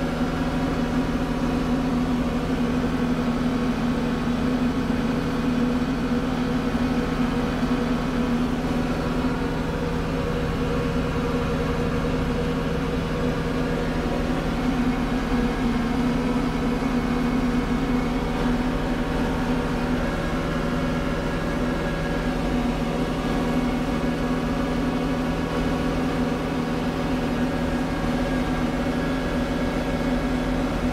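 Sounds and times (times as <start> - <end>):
tractor diesel engine droning: 0.0 - 30.9.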